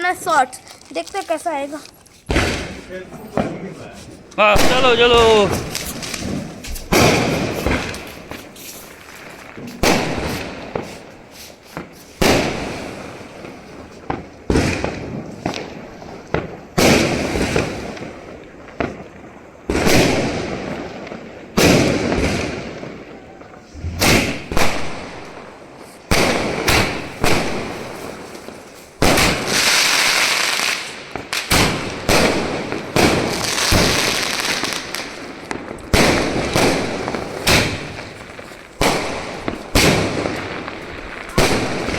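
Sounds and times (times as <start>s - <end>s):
firework bangs with crackle: 0.0s - 41.9s.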